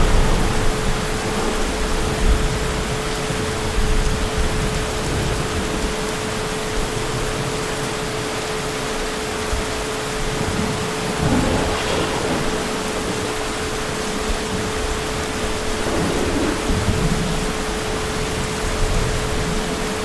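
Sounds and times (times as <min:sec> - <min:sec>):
low rumbling thunder: 0:00.0 - 0:07.6, 0:10.0 - 0:20.0
heavy rain falling: 0:00.0 - 0:20.0.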